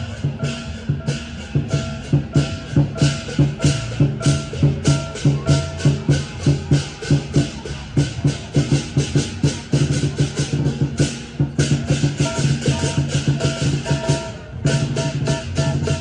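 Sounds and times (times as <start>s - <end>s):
low drum thumps: 0.0s - 16.0s.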